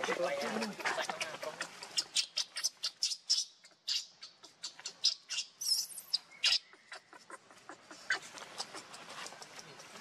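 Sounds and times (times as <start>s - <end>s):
baby monkey squeaking: 0.4s - 10.0s.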